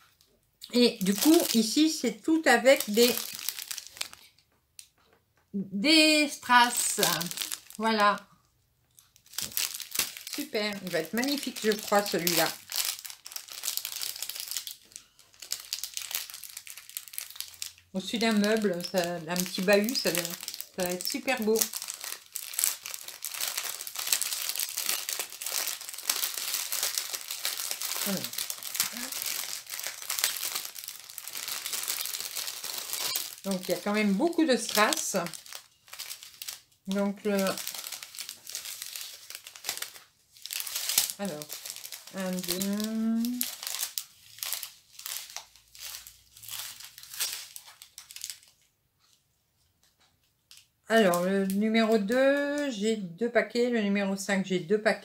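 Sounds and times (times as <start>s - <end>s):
plastic packaging crinkling: 0.0s - 4.4s, 6.4s - 8.2s, 8.9s - 48.8s, 49.8s - 52.8s.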